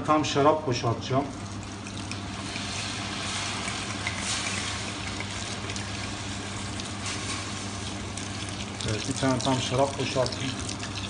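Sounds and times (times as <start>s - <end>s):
wine pouring into a pot: 1.2s - 11.0s.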